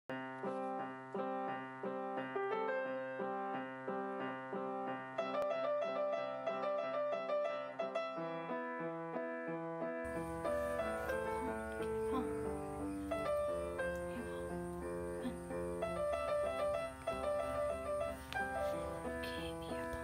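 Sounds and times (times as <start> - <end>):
gentle piano music: 0.1 - 20.0.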